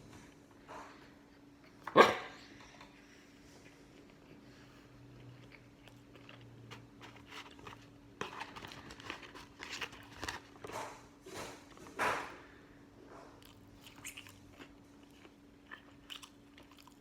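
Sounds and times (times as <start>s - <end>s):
faint steady hum: 0.0s - 17.0s
chewing and crunching food: 2.6s - 12.4s, 13.0s - 17.0s.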